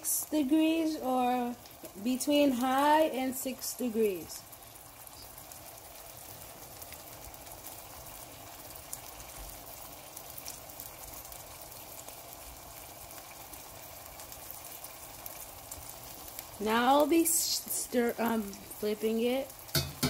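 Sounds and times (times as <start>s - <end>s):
eggs sizzling in a pan: 0.0s - 20.0s
oil crackling: 0.5s - 20.0s.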